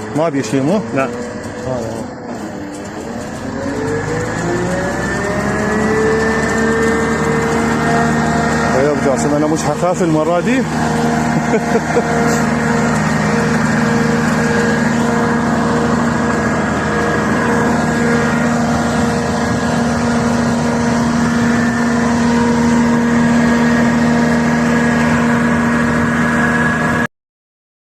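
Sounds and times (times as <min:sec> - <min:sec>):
engine humming steadily: 0:00.0 - 0:27.1.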